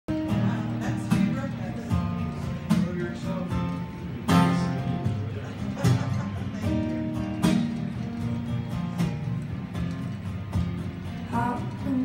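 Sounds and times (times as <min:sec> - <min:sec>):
acoustic guitar strumming: 0:00.1 - 0:12.0.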